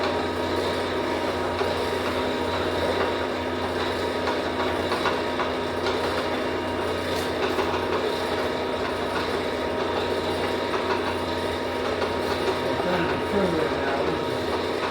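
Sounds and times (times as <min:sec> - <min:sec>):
workshop machine humming: 0:00.0 - 0:14.9.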